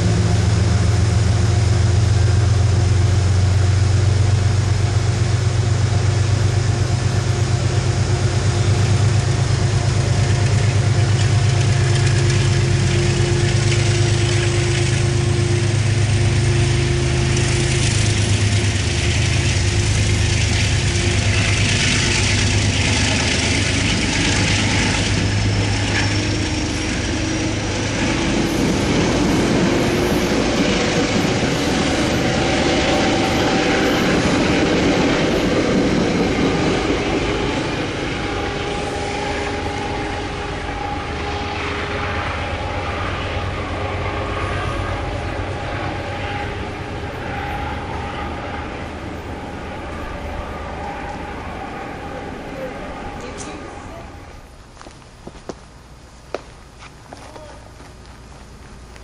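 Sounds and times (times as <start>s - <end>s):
diesel locomotive engine drone: 0.0s - 59.0s
train wheels rolling on rails: 0.0s - 59.0s.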